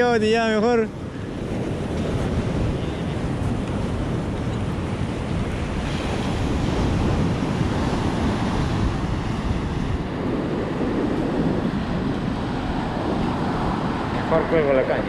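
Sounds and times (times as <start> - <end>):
surf breaking on a beach: 0.0 - 15.0
wind buffeting the microphone: 0.0 - 15.0.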